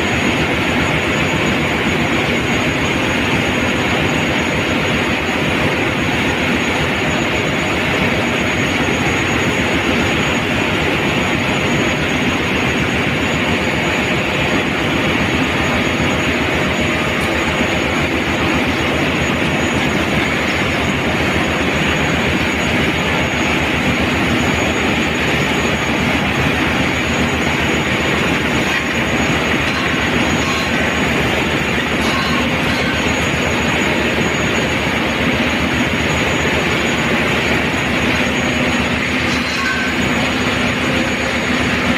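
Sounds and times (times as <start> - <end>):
engine room machinery din: 0.0 - 41.9
thin high whine: 0.0 - 41.9.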